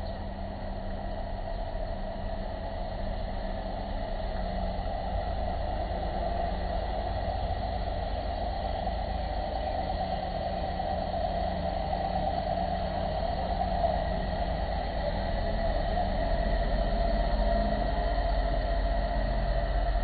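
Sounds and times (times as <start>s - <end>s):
vehicle engines rumbling on street: 0.0s - 20.0s.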